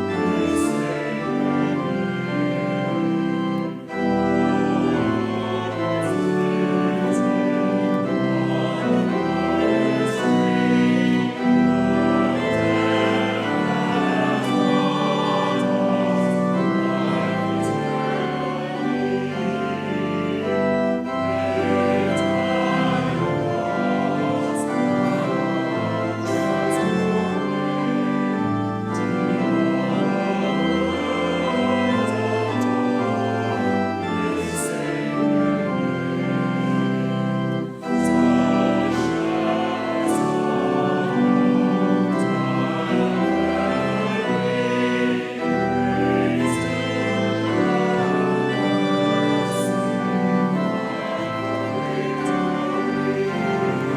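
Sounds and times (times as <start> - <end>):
organ playing sustained chords: 0.0 - 53.9.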